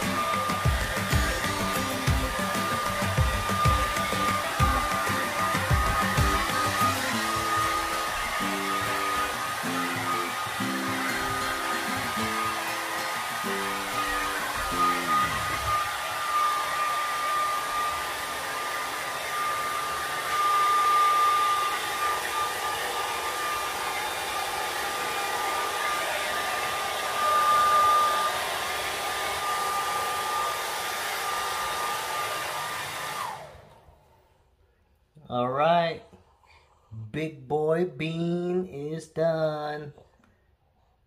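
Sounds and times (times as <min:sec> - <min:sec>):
hair dryer running: 0:00.0 - 0:34.6.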